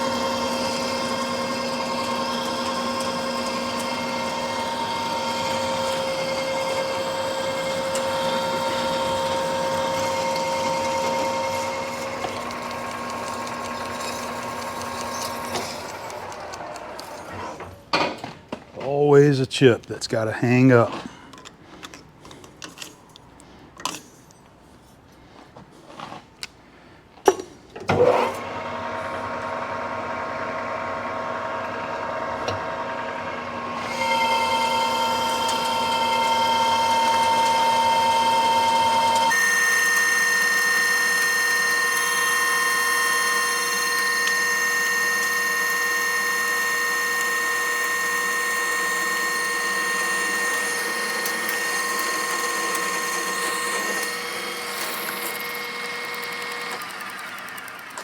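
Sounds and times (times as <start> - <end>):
metal lathe running with gear whine: 0.0 - 17.2, 28.0 - 58.0.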